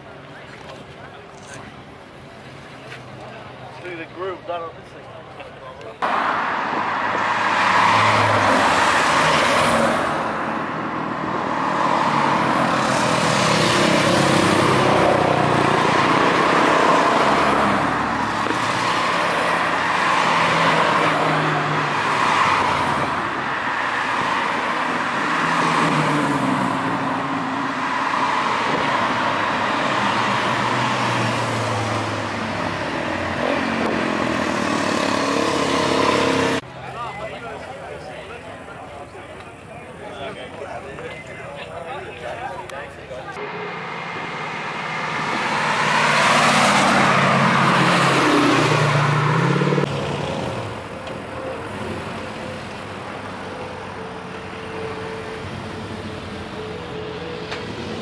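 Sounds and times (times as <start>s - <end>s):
cars driving past: 5.7s - 41.2s, 41.8s - 58.0s.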